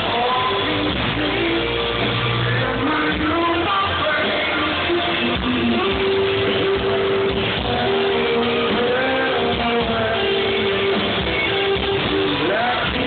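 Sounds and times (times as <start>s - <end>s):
person singing: 0.0s - 13.0s
rock band playing: 0.0s - 13.0s.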